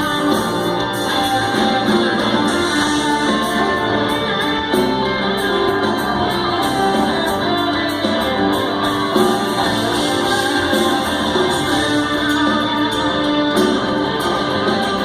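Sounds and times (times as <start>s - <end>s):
rock band playing: 0.0s - 15.0s
strummed guitar: 0.0s - 15.0s.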